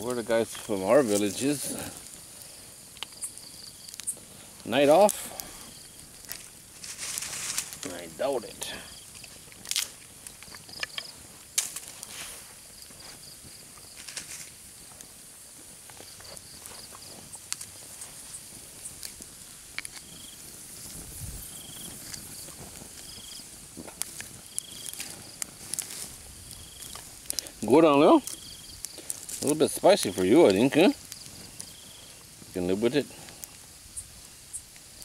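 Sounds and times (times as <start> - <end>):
sharp clicks and crackles: 0.0 - 15.1, 15.8 - 35.0
insect high-pitched buzz: 0.1 - 35.0.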